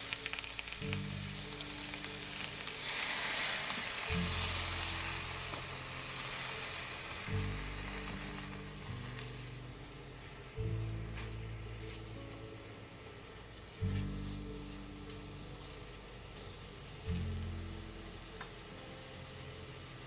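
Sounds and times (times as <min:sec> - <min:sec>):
background music with slow bass: 0:00.0 - 0:20.0
vegetables sizzling in a frying pan: 0:00.0 - 0:20.0.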